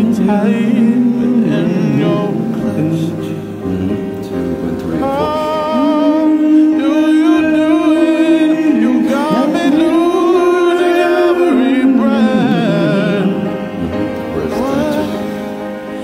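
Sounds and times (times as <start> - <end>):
man singing held notes: 0.0 - 15.6
karaoke backing track: 0.0 - 16.0.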